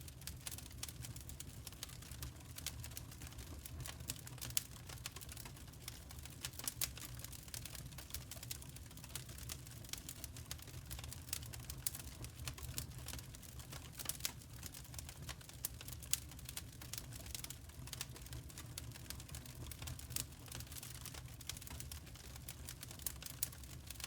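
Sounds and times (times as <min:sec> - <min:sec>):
light clicks and crackles: 0:00.0 - 0:24.0.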